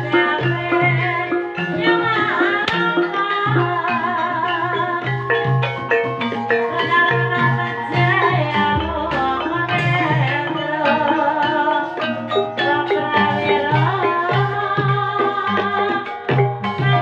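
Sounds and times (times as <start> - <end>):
gliding melodic line: 0.0 - 17.0
hand drums: 0.0 - 17.0
struck melodic percussion: 0.0 - 17.0.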